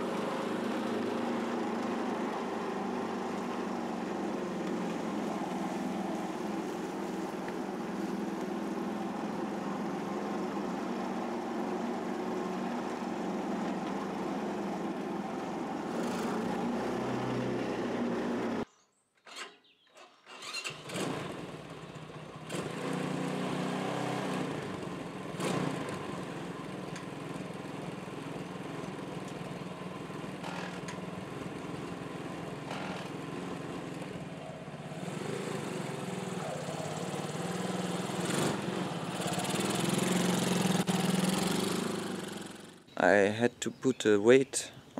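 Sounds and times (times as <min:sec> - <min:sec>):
tractor engine running: 0:00.0 - 0:18.6, 0:20.4 - 0:44.4.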